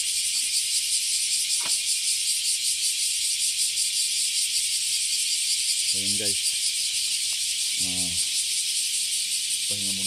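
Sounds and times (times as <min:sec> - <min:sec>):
cicadas chorus: 0:00.0 - 0:10.0.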